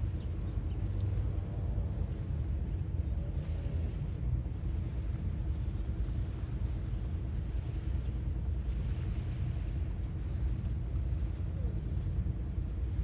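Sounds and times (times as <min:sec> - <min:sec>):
sea waves washing in: 0:00.0 - 0:13.0
steady low rumble: 0:00.0 - 0:13.0.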